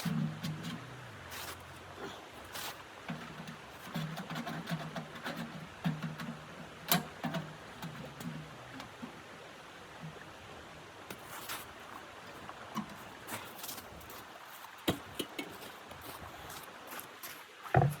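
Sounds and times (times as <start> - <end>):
low hiss: 0.0 - 18.0.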